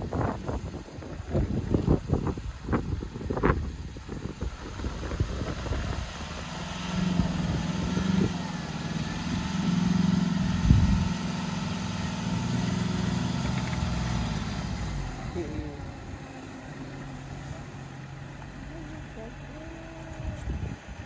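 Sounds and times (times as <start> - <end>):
car engine revving: 3.3 - 21.0.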